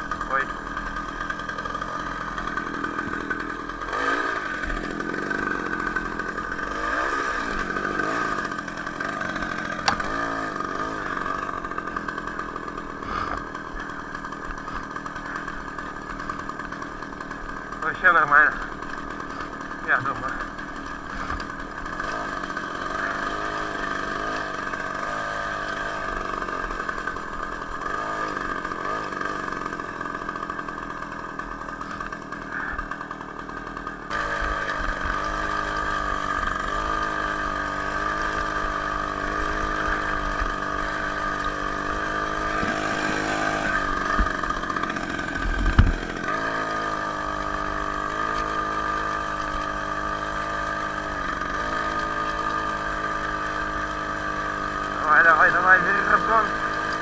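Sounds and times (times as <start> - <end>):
two-stroke moped engine running: 0.0 - 57.0.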